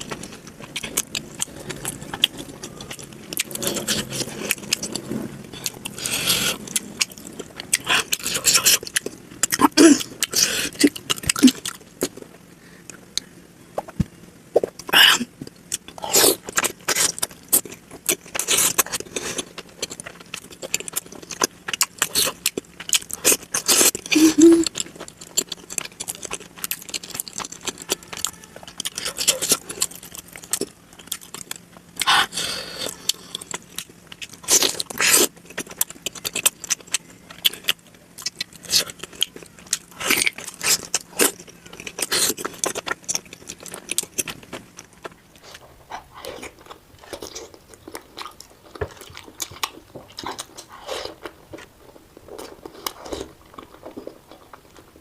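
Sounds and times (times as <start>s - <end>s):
chewing and biting sounds: 0.0s - 55.0s.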